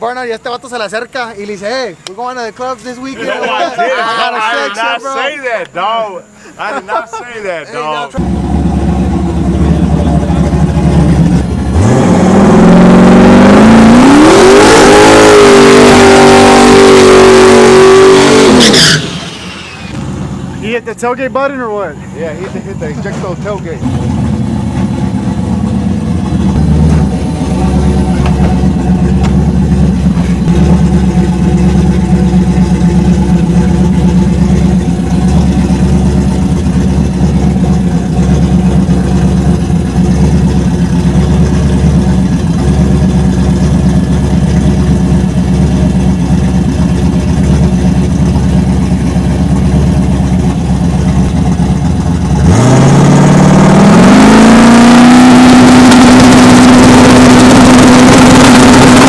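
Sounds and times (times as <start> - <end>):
truck engine idling and revving: 8.2 - 59.0.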